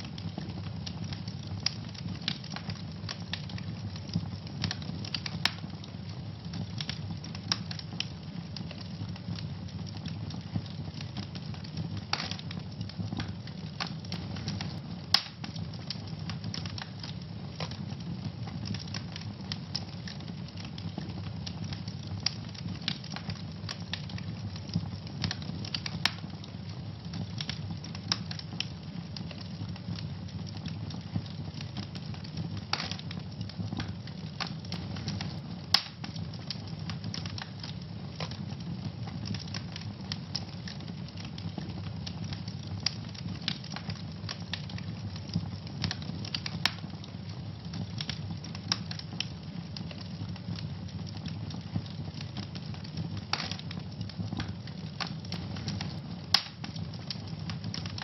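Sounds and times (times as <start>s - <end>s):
fire crackling and popping: 0.0s - 58.0s
fire rumbling: 0.0s - 58.0s.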